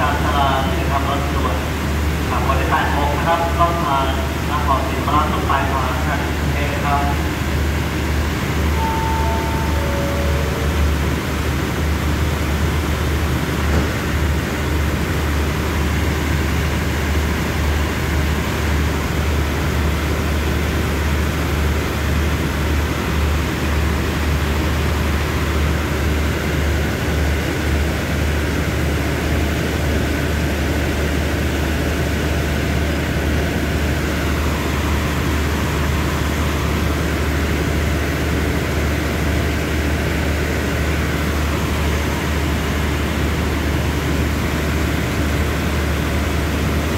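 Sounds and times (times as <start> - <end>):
diesel train engines idling: 0.0 - 46.9.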